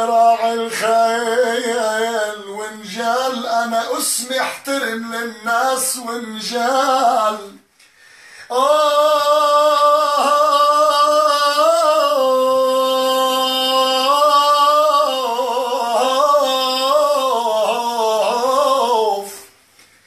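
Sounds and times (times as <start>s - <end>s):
man singing unaccompanied: 0.0s - 7.7s, 8.5s - 19.6s.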